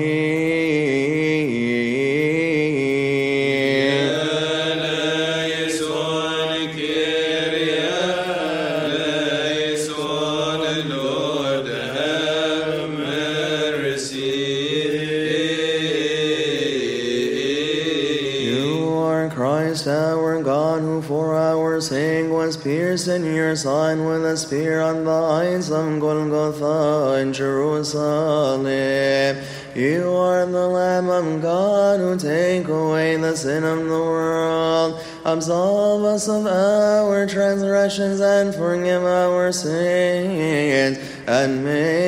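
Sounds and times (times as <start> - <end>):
man chanting: 0.0 - 42.0.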